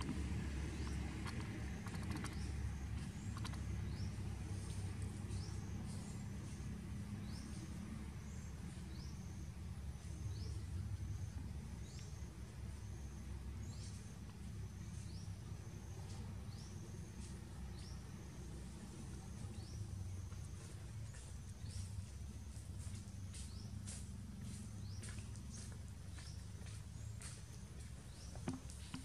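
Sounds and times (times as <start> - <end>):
bird chirping: 0.0 - 29.0
low outdoor rumble: 0.0 - 29.0.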